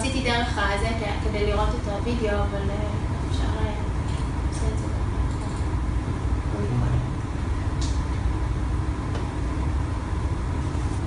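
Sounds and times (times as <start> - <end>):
low rumble and hum: 0.0 - 11.0.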